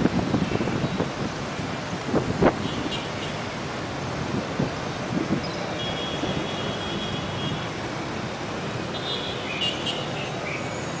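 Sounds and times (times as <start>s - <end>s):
dense traffic noise: 0.0s - 11.0s.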